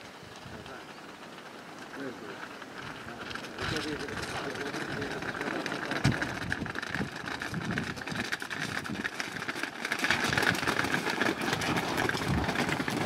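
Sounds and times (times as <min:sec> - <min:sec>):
engine-like hum: 0:00.0 - 0:13.0
hooves clattering on pavement: 0:00.0 - 0:13.0.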